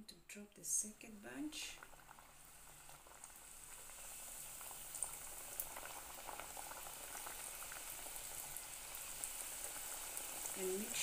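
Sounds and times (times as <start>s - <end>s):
dough sizzling in hot oil: 0.8s - 11.0s.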